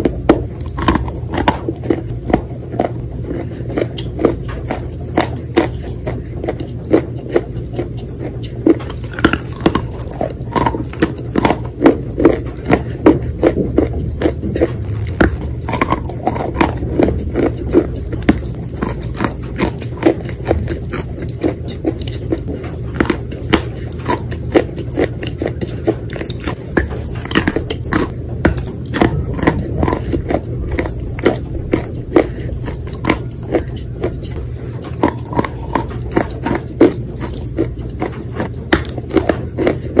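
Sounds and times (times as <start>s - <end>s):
crisp crunching while chewing: 0.0s - 40.0s
wet chewing: 0.0s - 40.0s.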